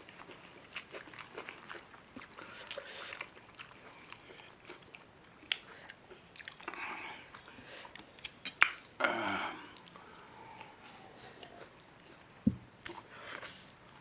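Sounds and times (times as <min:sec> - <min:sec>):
person chewing: 0:00.0 - 0:08.8, 0:09.7 - 0:14.0.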